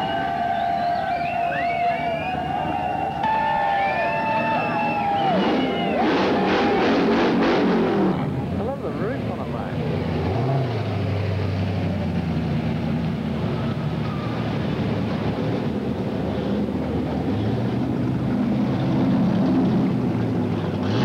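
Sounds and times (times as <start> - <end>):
car engine running low: 0.0 - 21.0.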